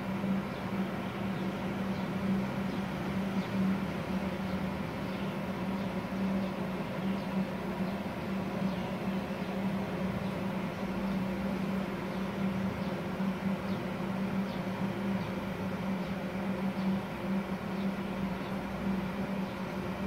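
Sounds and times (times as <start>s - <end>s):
welder and cooler humming: 0.0s - 20.0s.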